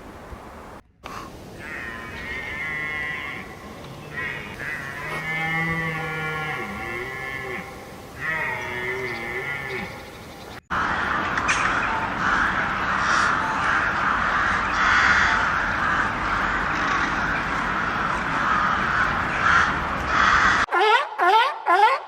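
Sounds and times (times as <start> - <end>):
flock of birds calling: 0.0 - 20.7.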